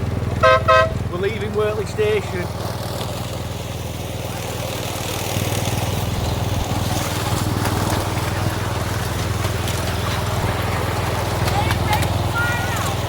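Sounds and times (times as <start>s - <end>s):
miniature train running: 0.0s - 13.0s.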